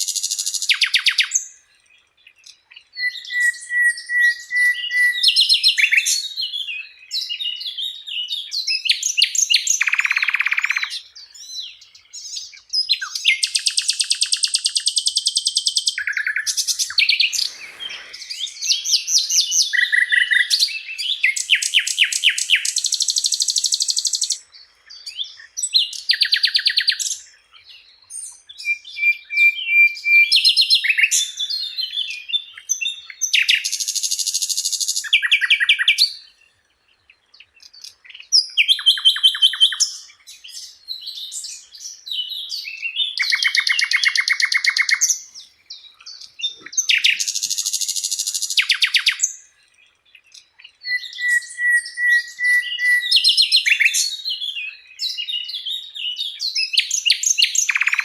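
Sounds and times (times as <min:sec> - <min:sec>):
flycatcher singing: 0:00.0 - 0:01.7, 0:02.4 - 0:58.0.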